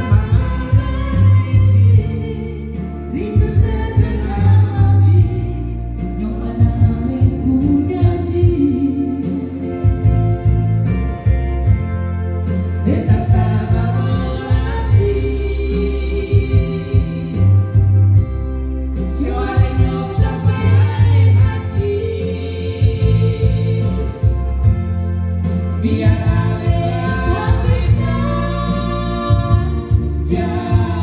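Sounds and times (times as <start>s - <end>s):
man singing: 0.0s - 10.2s, 12.8s - 18.0s, 19.0s - 24.6s, 25.8s - 31.0s
woman singing: 0.0s - 10.2s, 12.8s - 17.8s, 19.0s - 24.6s, 25.8s - 31.0s
electronic keyboard with drum beat: 0.0s - 31.0s.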